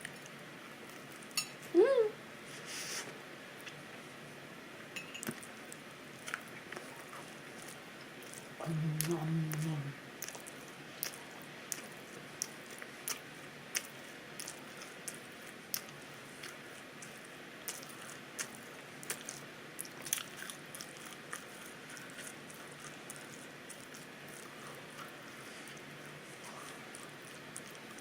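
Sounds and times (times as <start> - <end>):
person chewing crunchy food: 5.2 - 28.0.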